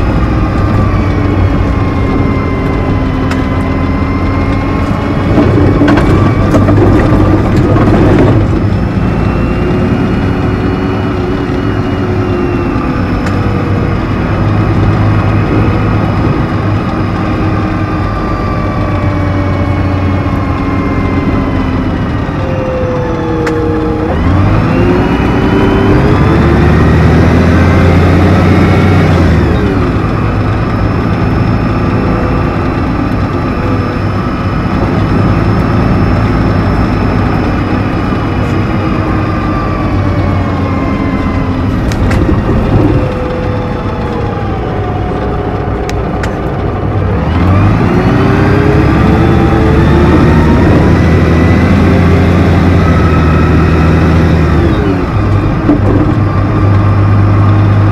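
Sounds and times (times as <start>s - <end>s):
bus diesel engine pulling away: 0.0s - 57.9s
gearbox whine: 0.0s - 57.9s.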